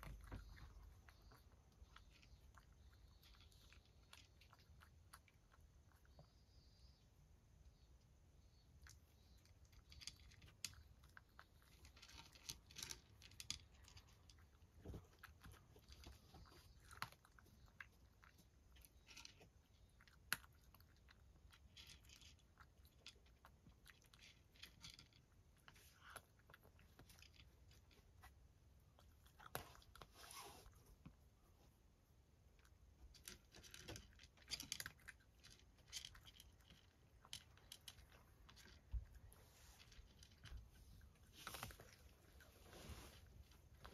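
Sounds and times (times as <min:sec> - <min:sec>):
cat crunching dry kibble: 0:00.0 - 0:06.3, 0:08.6 - 0:31.2, 0:32.3 - 0:43.9.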